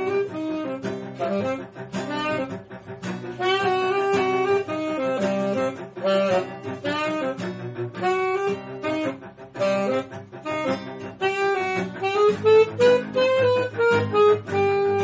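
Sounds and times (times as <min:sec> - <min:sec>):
instrumental music with bass line: 0:00.0 - 0:15.0.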